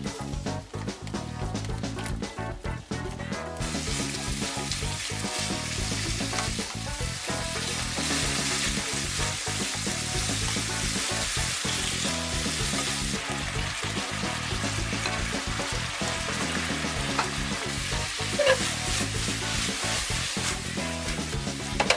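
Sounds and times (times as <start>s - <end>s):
background music: 0.0s - 21.9s
meat sizzling in frying pan: 3.6s - 21.9s
tongs stirring in pan: 3.6s - 21.9s.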